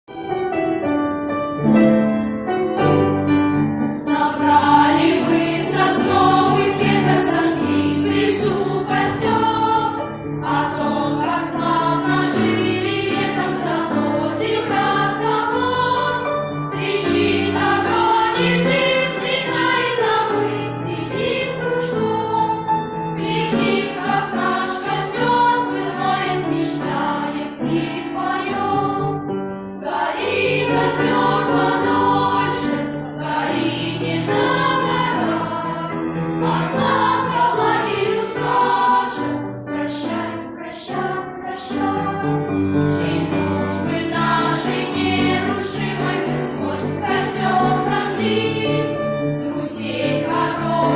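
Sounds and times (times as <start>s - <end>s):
choir singing: 3.7s - 50.9s.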